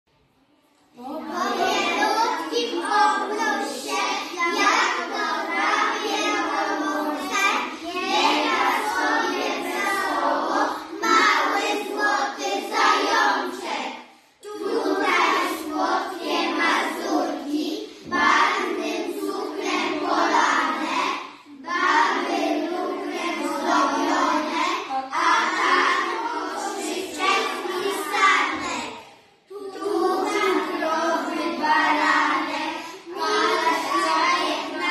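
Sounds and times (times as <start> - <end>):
children singing in chorus: 1.0 - 34.9.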